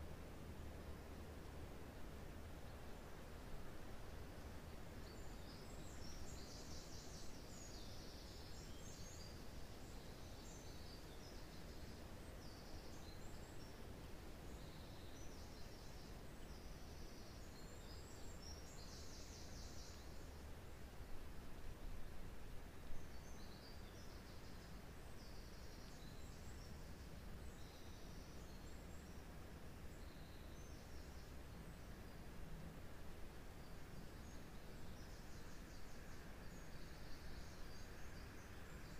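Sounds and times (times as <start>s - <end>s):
wind rushing through pines: 0.0s - 38.9s.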